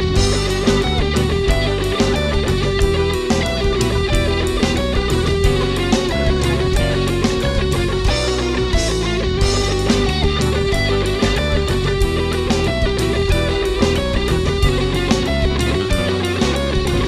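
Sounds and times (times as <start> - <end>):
drum kit beat: 0.0 - 17.0
electric guitars: 0.0 - 17.0.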